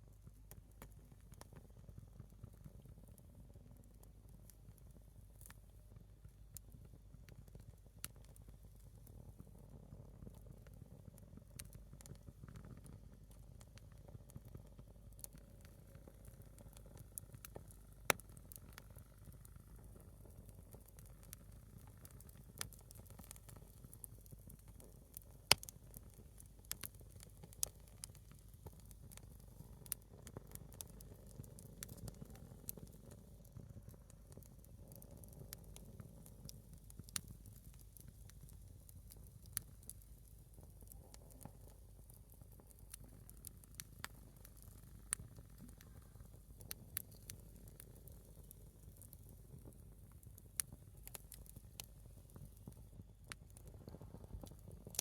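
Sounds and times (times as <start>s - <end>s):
wood fire crackling: 6.5s - 55.0s.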